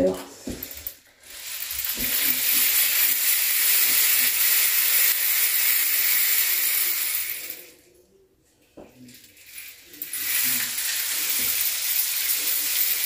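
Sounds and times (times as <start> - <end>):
rain stick rushing hiss: 0.6 - 7.7, 9.2 - 13.0.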